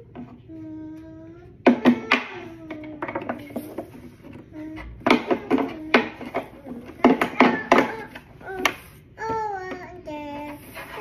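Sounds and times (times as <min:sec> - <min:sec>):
toddler sing-song vocalising: 0:00.0 - 0:03.8, 0:04.4 - 0:11.0.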